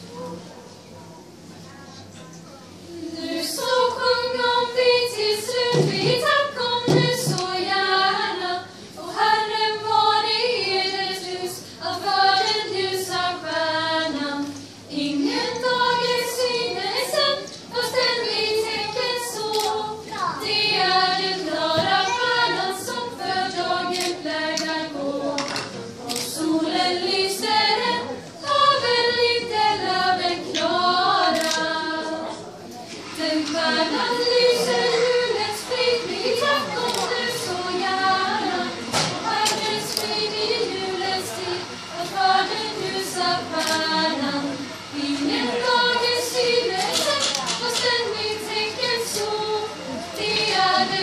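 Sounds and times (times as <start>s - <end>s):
women's choir singing unaccompanied: 2.8s - 51.0s.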